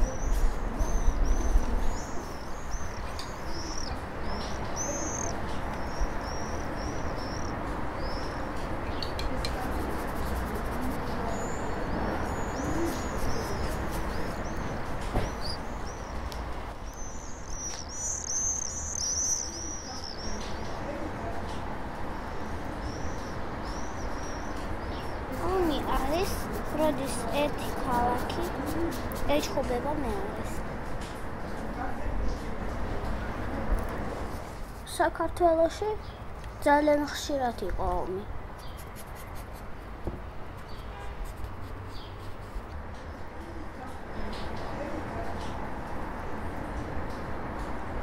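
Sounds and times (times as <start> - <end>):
small birds chirping: 0.0 - 30.6, 34.7 - 39.7, 40.6 - 44.7
steady background noise: 0.0 - 48.0.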